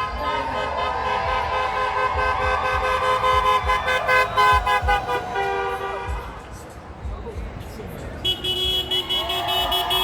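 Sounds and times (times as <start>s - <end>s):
car horns honking: 0.0s - 6.6s, 8.2s - 10.0s.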